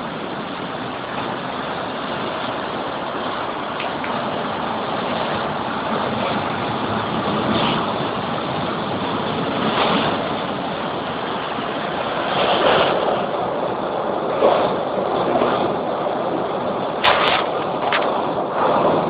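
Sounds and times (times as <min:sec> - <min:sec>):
car wash water spray hissing: 0:00.0 - 0:19.0.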